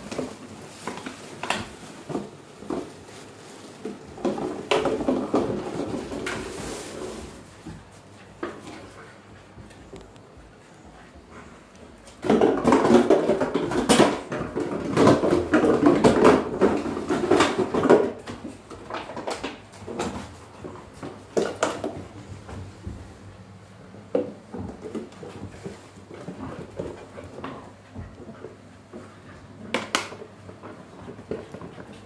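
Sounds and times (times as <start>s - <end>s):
puppies scuffling and rustling: 0.0s - 32.0s.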